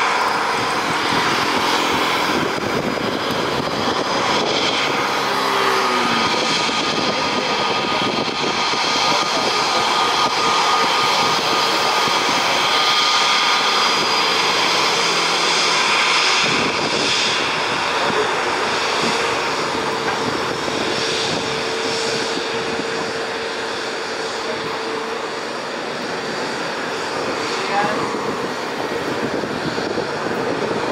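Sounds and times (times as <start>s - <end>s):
jet engines whining at low thrust: 0.0s - 30.9s.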